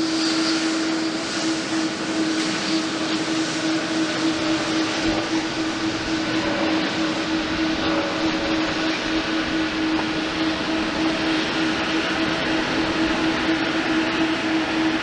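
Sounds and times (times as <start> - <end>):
droning hum: 0.0 - 15.0
jet engine rushing noise: 0.0 - 15.0.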